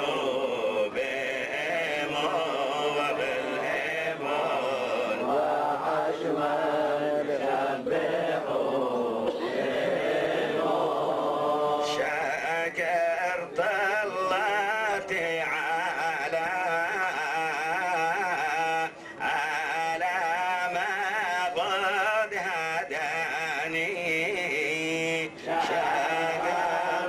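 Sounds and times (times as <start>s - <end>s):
men chanting prayers: 0.0s - 27.0s.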